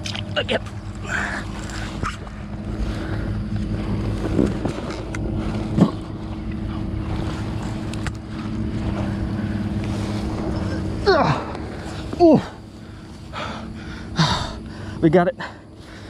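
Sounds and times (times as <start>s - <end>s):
motor humming: 0.0s - 16.0s
noisy wash of wind or water: 0.0s - 16.0s.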